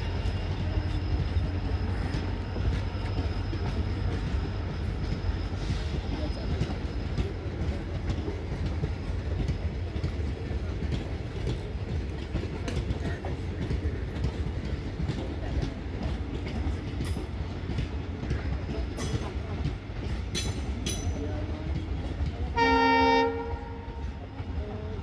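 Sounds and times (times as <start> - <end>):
train coaches rumbling past: 0.0 - 25.0.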